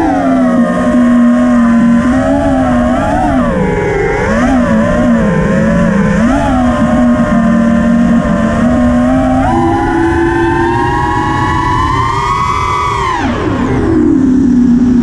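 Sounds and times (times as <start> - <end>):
drone motors whining: 0.0 - 15.0
rush of air noise: 0.0 - 15.0.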